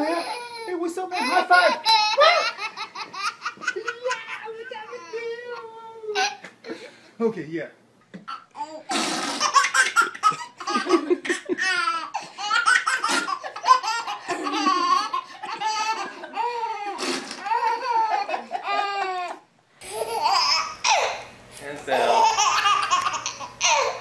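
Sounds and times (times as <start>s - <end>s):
baby laughing: 0.0s - 5.4s, 8.2s - 21.3s, 21.9s - 24.0s.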